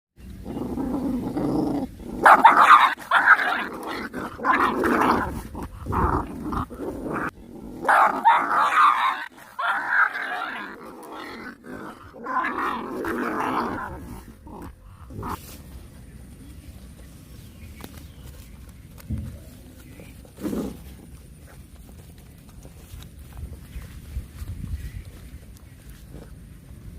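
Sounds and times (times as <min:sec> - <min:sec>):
puppies growling and snarling: 0:00.2 - 0:15.6, 0:19.8 - 0:26.9.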